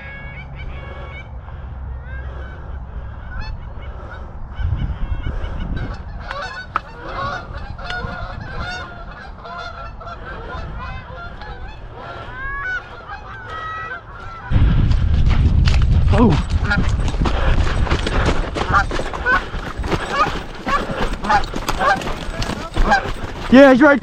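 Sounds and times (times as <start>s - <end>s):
geese honking: 0.0s - 14.6s, 18.1s - 24.0s.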